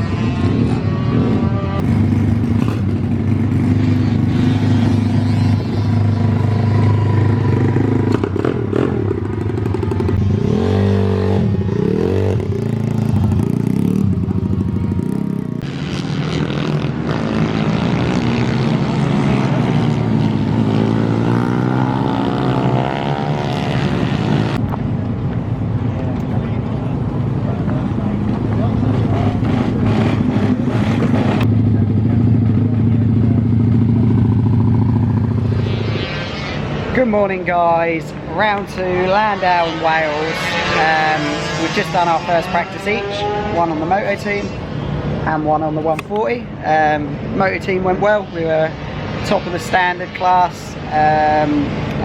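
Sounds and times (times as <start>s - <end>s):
pit bike engines revving: 0.0s - 52.0s.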